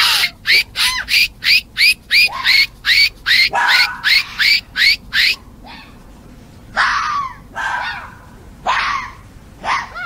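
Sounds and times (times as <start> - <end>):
fox barking: 0.0 - 1.2, 1.8 - 6.0, 6.8 - 10.0.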